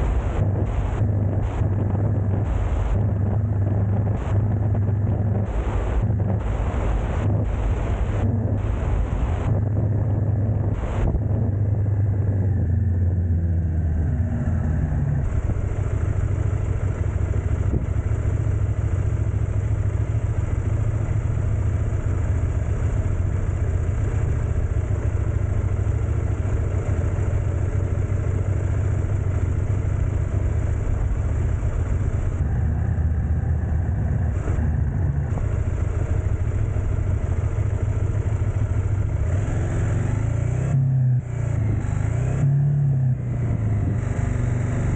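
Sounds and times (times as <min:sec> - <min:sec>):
vehicle engine low rumble: 0:00.0 - 0:44.9.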